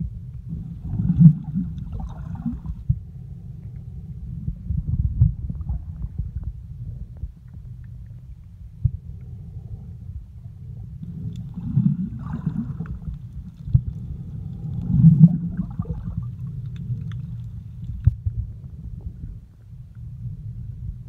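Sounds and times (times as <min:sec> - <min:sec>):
underwater rumble of moving water: 0:00.0 - 0:21.0.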